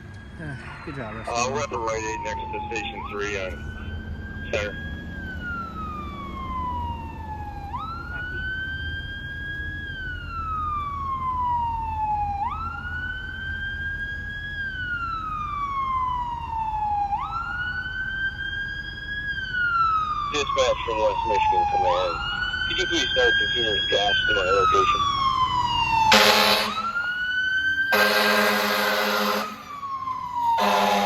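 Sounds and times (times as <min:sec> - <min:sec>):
fire engine siren wailing: 0:00.0 - 0:31.0.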